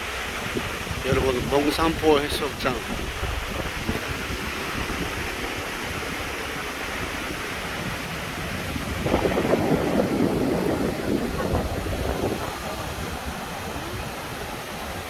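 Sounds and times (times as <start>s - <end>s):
sea surf on a beach: 0.0s - 15.0s
wind buffeting microphone: 0.0s - 15.0s.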